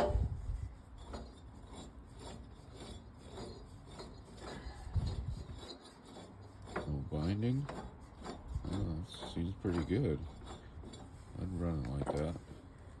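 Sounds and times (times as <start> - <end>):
gears rasping: 0.0 - 12.9.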